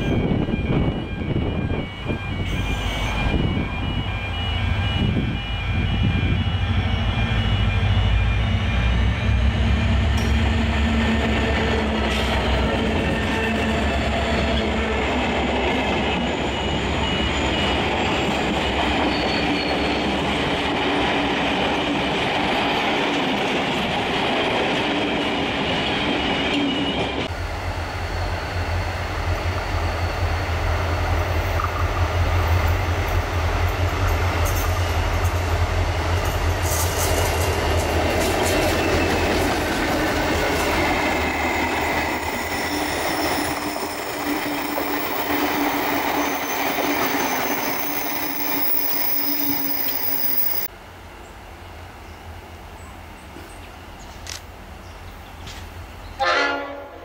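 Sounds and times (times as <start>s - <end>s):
carriages rolling on rails: 0.0s - 50.7s
diesel locomotives passing: 0.0s - 57.0s
low drone of locomotive engines: 0.0s - 57.0s.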